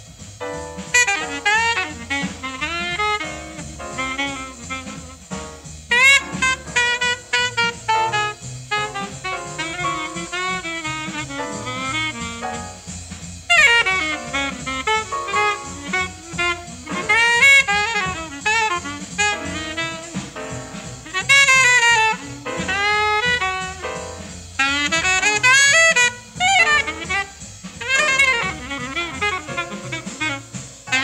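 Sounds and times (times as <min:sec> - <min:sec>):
bass: 0:00.0 - 0:31.0
drums: 0:00.0 - 0:31.0
jazz horn solo: 0:00.0 - 0:31.0.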